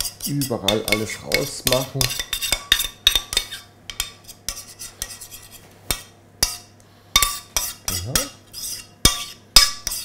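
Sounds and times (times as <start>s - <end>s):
metal spoon scraping saucepan: 0.0s - 10.0s.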